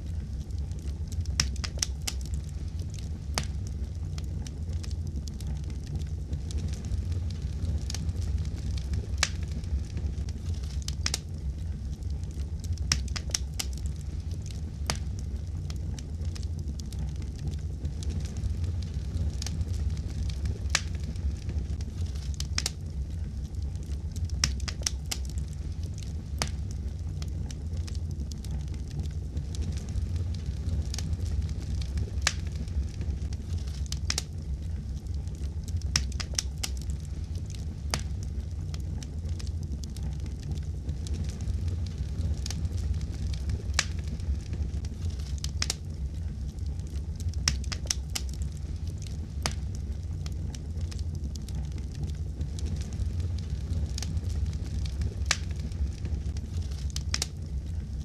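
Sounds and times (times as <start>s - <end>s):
fire crackling: 0.0s - 58.0s.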